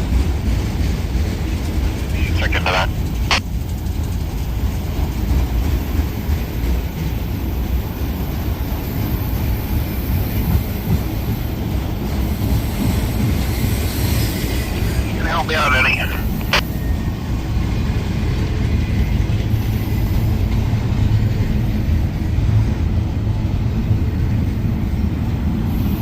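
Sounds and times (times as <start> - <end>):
train wheels rumbling on rails: 0.0 - 2.2, 2.9 - 15.2, 16.3 - 26.0.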